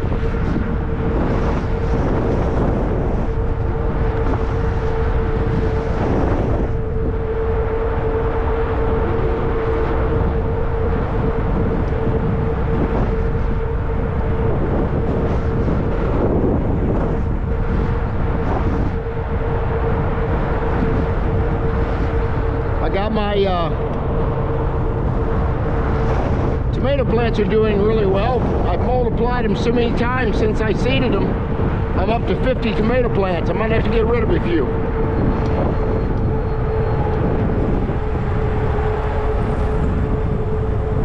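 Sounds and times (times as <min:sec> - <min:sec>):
steady motor hum: 0:00.0 - 0:41.0
wind rumbling on microphone: 0:00.0 - 0:41.0.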